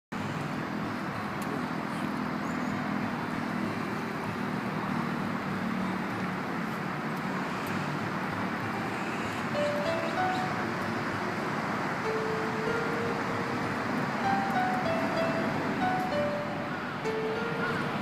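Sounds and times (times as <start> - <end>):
distant road traffic rumble: 0.1 - 18.0.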